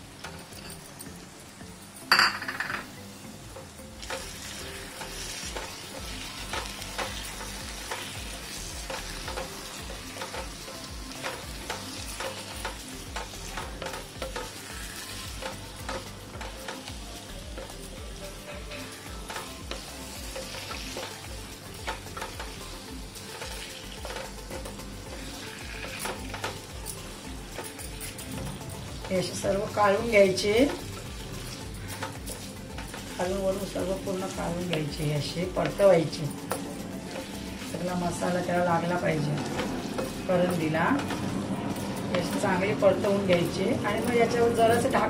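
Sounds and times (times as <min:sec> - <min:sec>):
shrimp sizzling in a pan: 0:00.0 - 0:45.0.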